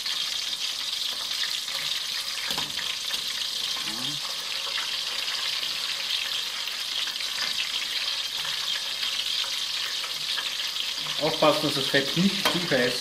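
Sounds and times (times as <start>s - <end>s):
deep-frying sizzle: 0.0s - 13.0s.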